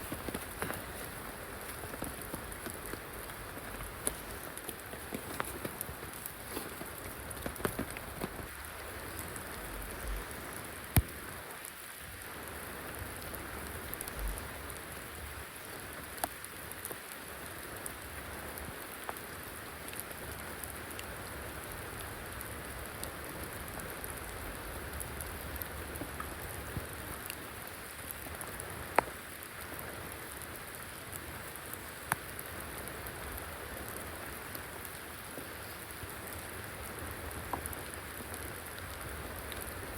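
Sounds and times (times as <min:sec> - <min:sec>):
loud nearby raindrops: 0:00.0 - 0:39.9
steady rain falling: 0:00.0 - 0:39.9.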